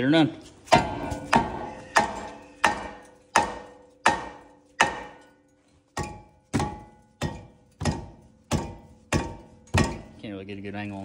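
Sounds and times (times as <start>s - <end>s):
mallet hammering metal: 0.7s - 10.2s.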